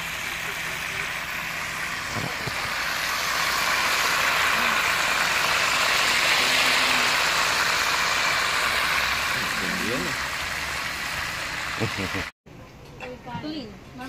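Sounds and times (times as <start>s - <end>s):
hot oil sizzling: 0.0s - 12.3s.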